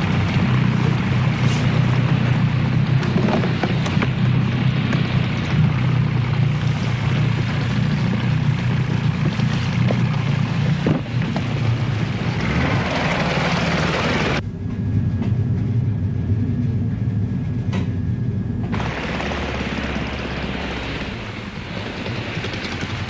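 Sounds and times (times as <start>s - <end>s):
boat engine drone: 0.0s - 23.0s.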